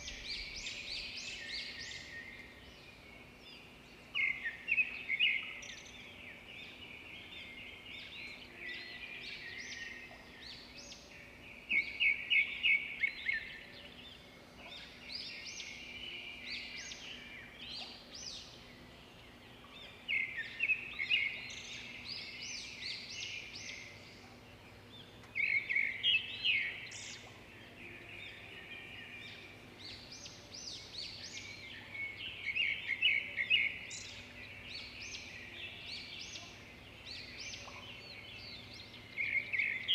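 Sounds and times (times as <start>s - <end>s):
quiet bird calls: 0.0s - 39.9s
songbirds singing: 0.0s - 39.9s.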